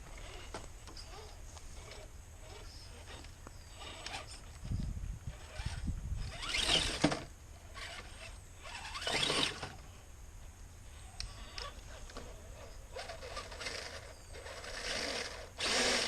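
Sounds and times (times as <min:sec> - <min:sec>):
rc crawler motor and drivetrain: 0:00.0 - 0:09.9, 0:10.9 - 0:16.0.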